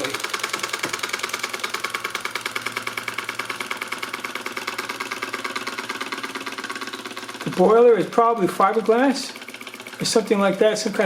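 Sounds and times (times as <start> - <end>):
toy steam engine clattering: 0.0 - 11.0.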